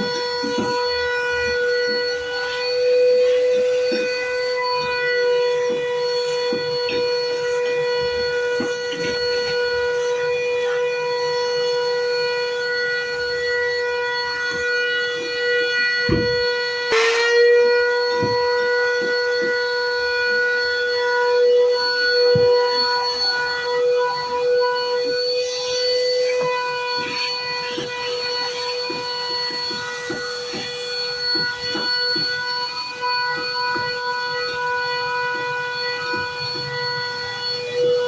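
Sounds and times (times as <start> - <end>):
machine high-pitched whine: 0.0 - 38.0.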